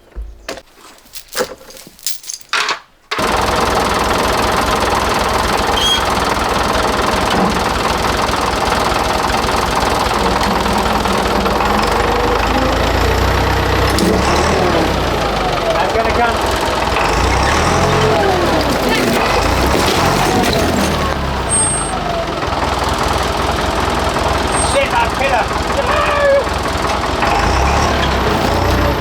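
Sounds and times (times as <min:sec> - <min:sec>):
tractor engine running: 0:03.1 - 0:29.0.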